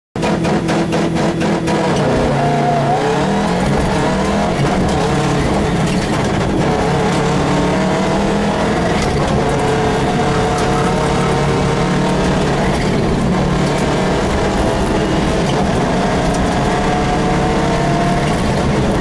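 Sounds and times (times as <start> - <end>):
rally car engine accelerating: 0.2 - 19.0.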